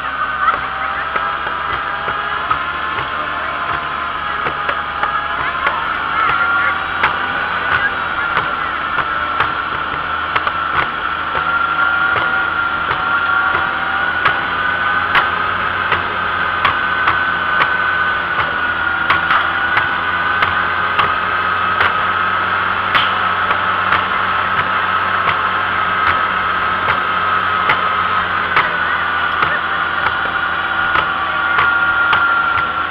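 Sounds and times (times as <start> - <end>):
high whine: 0.0 - 32.9
sharp clicks and rattles: 0.0 - 32.9
tractor engine running: 0.0 - 32.9.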